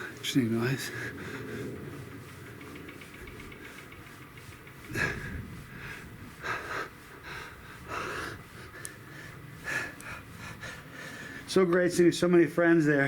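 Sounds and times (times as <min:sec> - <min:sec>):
man breathing hard: 0:00.8 - 0:11.5.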